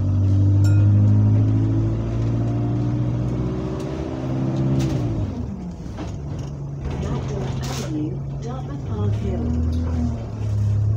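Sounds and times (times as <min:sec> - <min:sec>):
bus diesel engine drone: 0:00.0 - 0:10.9.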